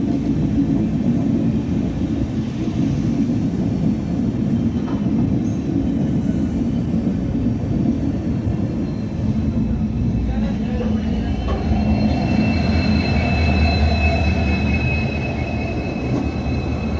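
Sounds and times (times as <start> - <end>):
train rumbling: 0.0 - 16.9.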